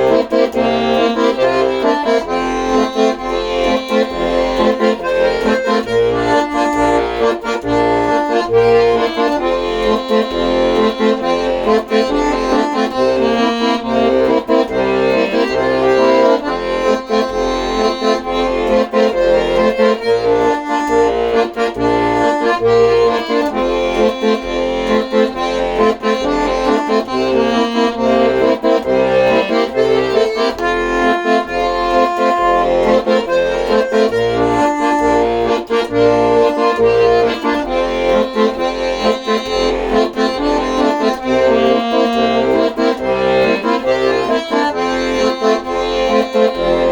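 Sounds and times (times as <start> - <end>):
accordion music: 0.0 - 46.9.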